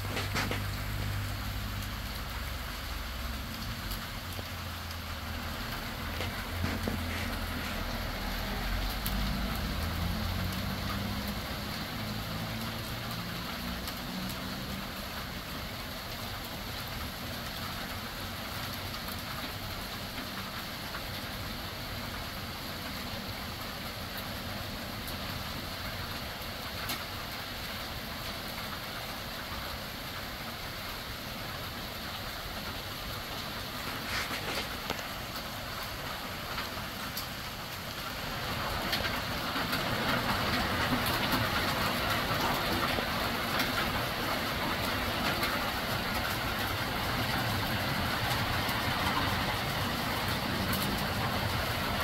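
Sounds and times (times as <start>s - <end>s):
heavy hail pattering: 0.0s - 52.0s.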